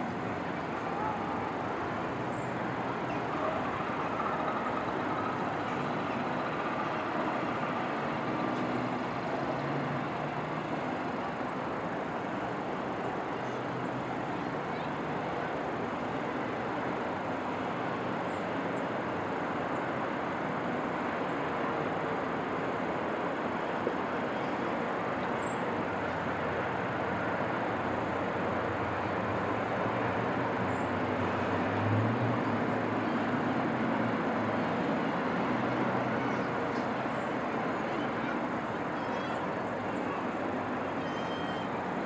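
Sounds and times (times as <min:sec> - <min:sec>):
distant traffic: 0:00.0 - 0:42.0.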